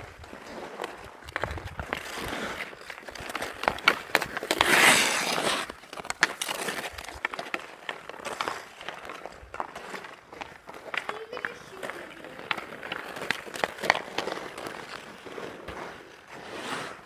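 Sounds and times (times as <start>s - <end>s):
hockey sticks clacking on pucks: 0.0s - 17.0s
skates scraping on ice: 0.0s - 17.0s.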